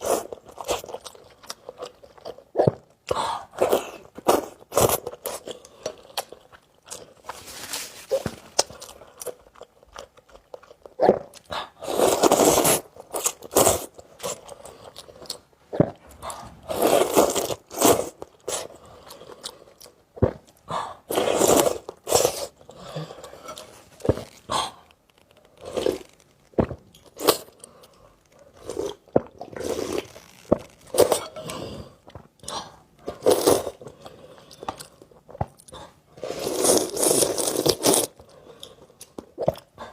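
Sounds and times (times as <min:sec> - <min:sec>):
wet chewing and mouth sounds: 0:00.0 - 0:39.9.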